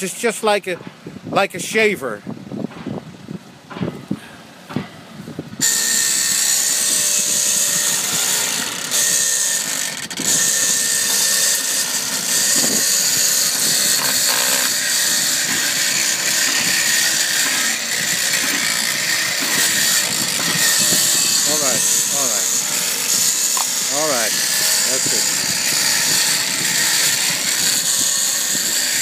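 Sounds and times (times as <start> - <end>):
blade scraping barnacles: 5.6 - 29.0
electric tool whining: 5.6 - 29.0.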